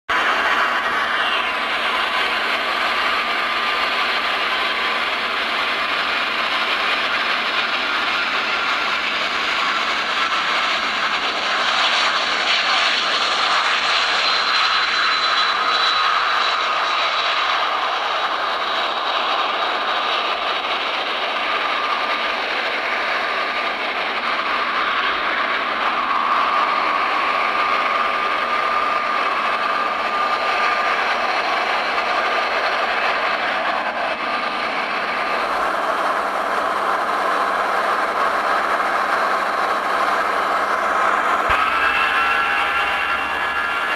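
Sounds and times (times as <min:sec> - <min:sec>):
jet engines at takeoff: 0:00.0 - 0:43.9.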